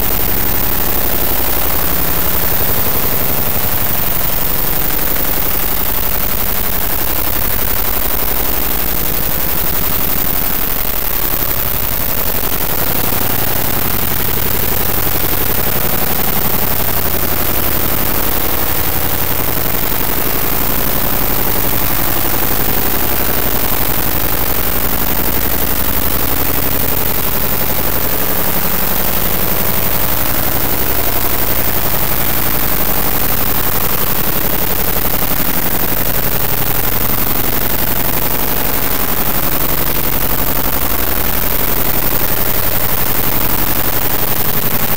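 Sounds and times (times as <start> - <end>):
harsh noise music static: 0.0 - 44.9
rapid crackle: 0.0 - 44.9.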